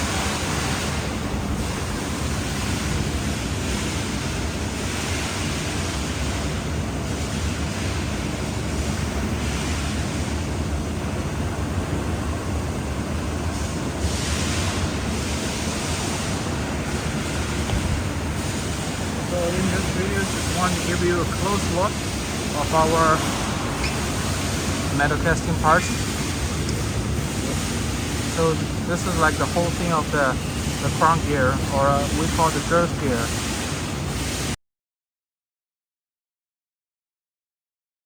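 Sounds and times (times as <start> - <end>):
low machine hum: 0.0 - 34.6.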